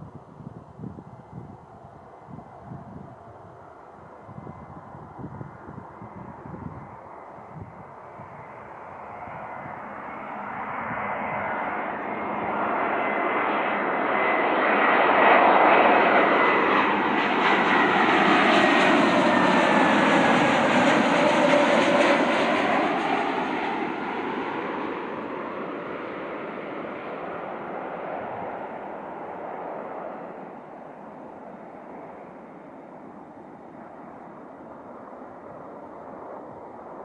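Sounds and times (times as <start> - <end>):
airliner jet engines passing: 0.0 - 37.0.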